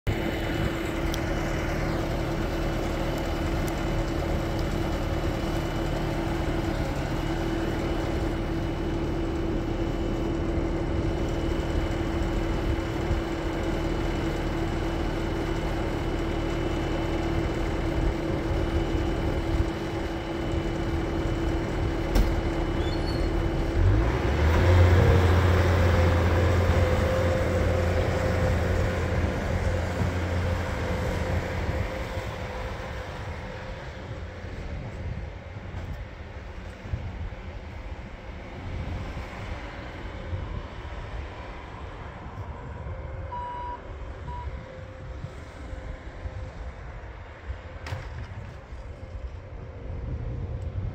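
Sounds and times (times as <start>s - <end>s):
diesel engine running with whine: 0.0s - 50.9s.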